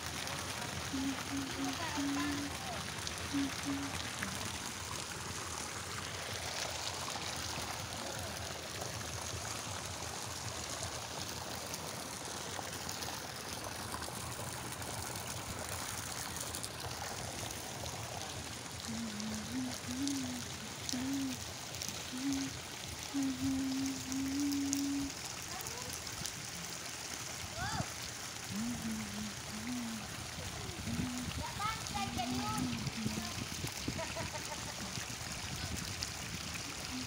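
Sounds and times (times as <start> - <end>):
water pouring into a pool: 0.0 - 37.0.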